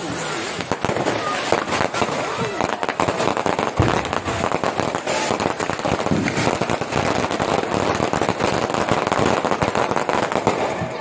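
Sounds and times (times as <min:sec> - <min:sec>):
firecrackers cracking and popping: 0:00.0 - 0:11.0.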